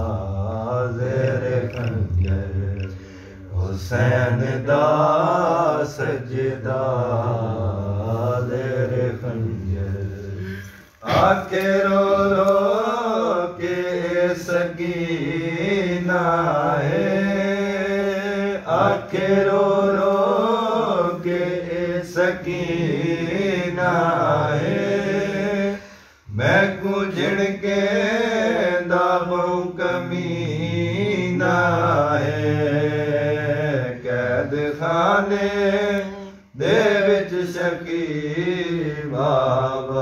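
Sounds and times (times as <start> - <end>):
man singing unaccompanied lament: 0.0 - 40.0.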